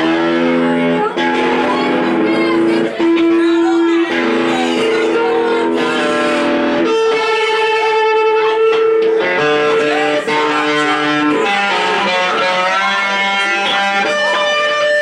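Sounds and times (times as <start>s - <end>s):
electric guitar notes with vibrato: 0.0s - 15.0s.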